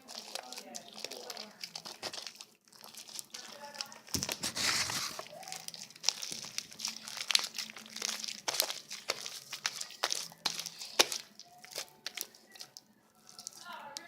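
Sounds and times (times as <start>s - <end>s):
slime crackling and squelching: 0.0s - 14.0s.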